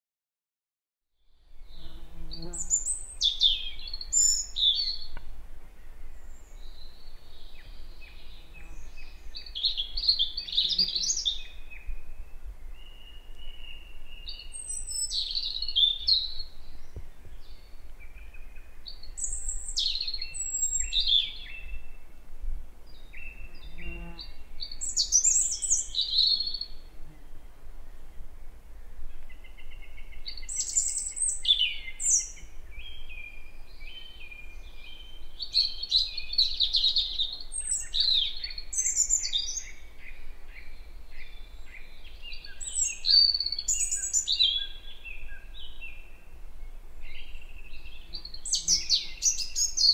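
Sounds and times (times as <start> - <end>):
robin singing: 1.6 - 22.2, 22.9 - 26.9, 29.1 - 49.9.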